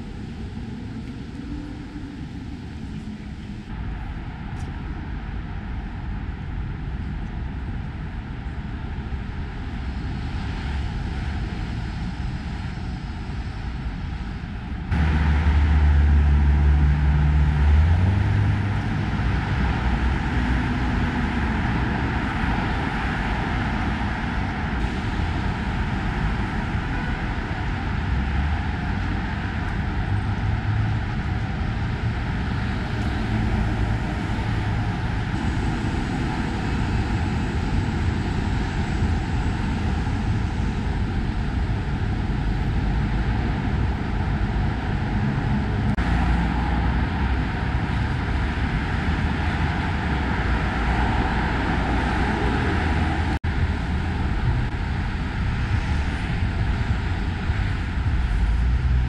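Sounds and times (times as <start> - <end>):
heavy road traffic roar: 0.0 - 59.0
heavy vehicle engine rumble: 0.0 - 59.0.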